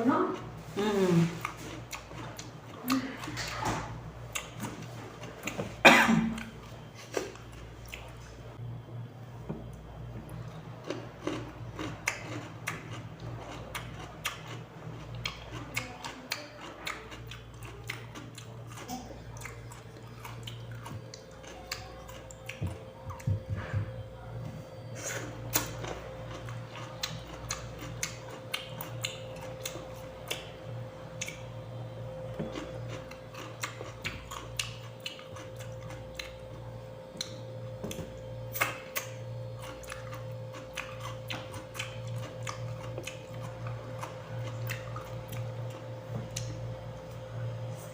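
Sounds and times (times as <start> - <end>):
steady low hum: 0.0 - 47.9
person chewing cucumber: 0.3 - 3.6, 4.2 - 8.6, 9.6 - 47.9.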